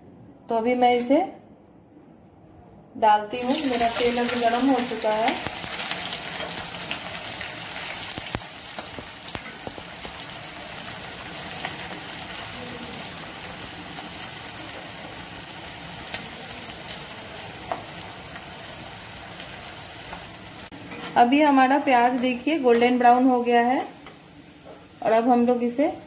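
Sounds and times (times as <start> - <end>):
onions sizzling in hot oil: 3.3 - 26.0.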